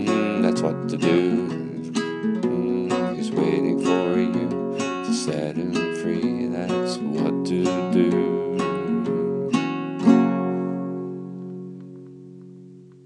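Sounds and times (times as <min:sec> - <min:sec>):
acoustic guitar playing: 0:00.0 - 0:13.0
strummed guitar chord ringing: 0:00.0 - 0:13.0.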